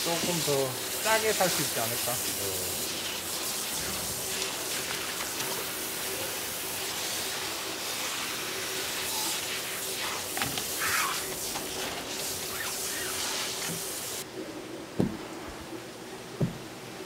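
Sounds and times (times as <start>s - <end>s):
running water hissing: 0.0s - 14.3s.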